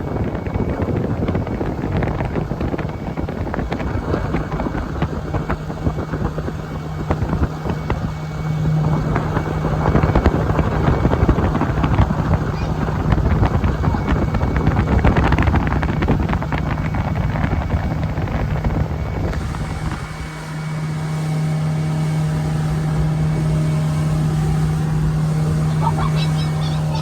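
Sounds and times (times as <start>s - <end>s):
motorboat engine running: 0.0s - 27.0s
wind buffeting microphone: 0.0s - 27.0s.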